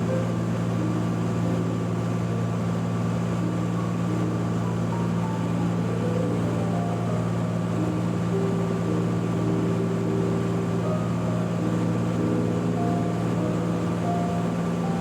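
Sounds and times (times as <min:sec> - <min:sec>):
aircraft engine and propeller drone: 0:00.0 - 0:15.0.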